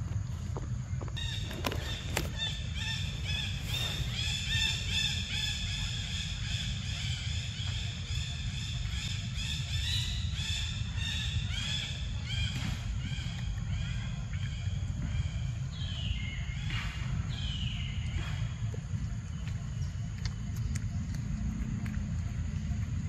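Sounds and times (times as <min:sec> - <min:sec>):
steady low rumble: 0:00.0 - 0:23.0
bird calling: 0:00.9 - 0:23.0.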